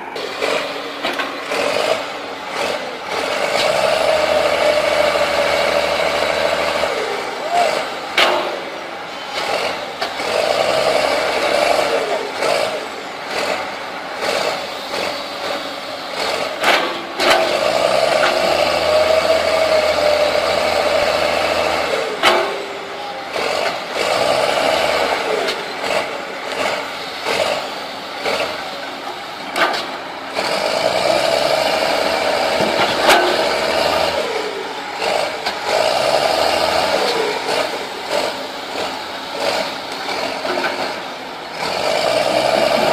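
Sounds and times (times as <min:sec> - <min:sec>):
heavy diesel engines under load: 0:00.0 - 0:42.9.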